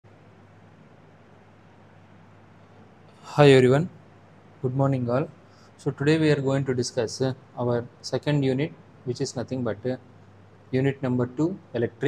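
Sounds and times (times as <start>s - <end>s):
steady hiss with low hum: 0.0s - 12.0s.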